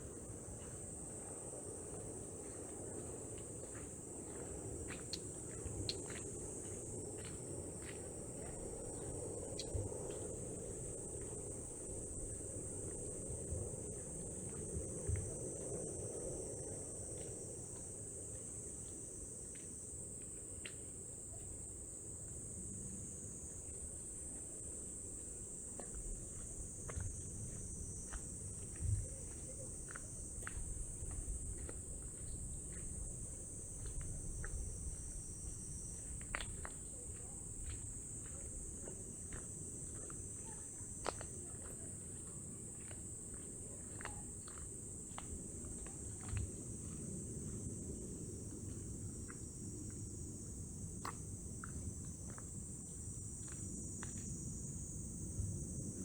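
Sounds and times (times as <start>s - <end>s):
night insects chorus: 0.0s - 56.0s.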